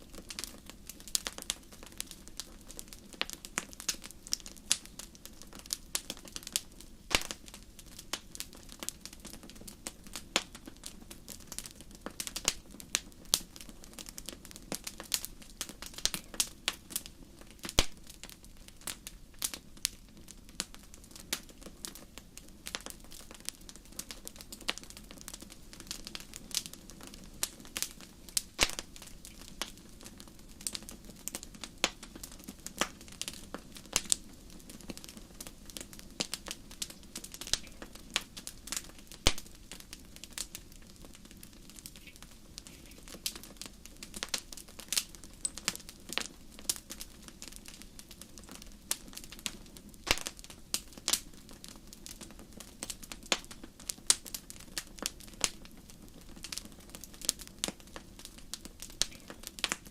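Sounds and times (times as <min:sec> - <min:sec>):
soft steady hiss: 0:00.0 - 0:59.9
wood fire crackling: 0:00.0 - 0:59.9.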